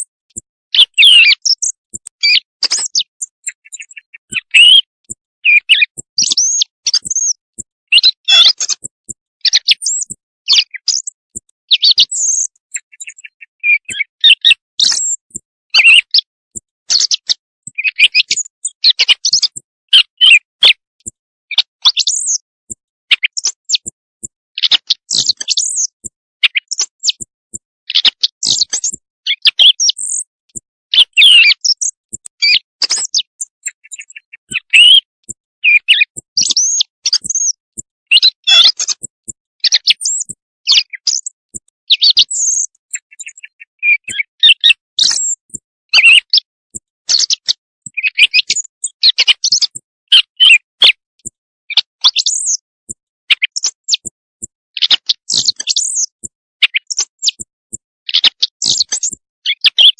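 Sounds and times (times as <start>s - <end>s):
recorded thrush song: 0.4s - 51.0s, 51.8s - 52.6s, 53.3s - 54.2s, 54.8s - 59.9s.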